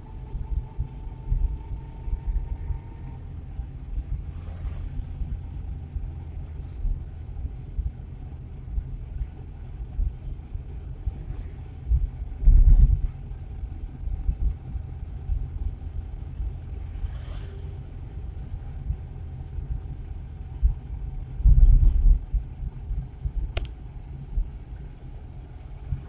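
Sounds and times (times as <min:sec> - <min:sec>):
low road rumble: 0:00.0 - 0:26.0.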